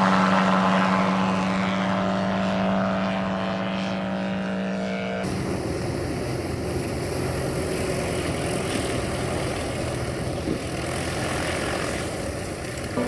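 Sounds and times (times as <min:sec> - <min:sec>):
constant rushing noise: 0:00.0 - 0:13.0
propeller aircraft engine running: 0:00.0 - 0:13.0.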